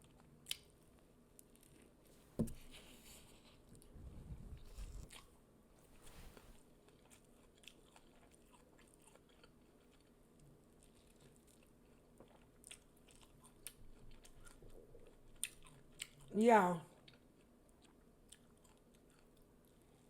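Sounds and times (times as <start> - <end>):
person chewing food: 0.0 - 2.0, 4.6 - 5.4, 6.1 - 16.3, 16.9 - 20.0.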